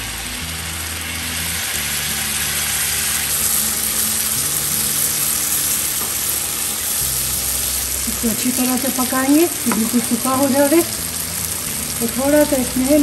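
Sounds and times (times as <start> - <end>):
chicken sizzling in a pan: 0.0 - 13.0
soft background music: 0.0 - 13.0.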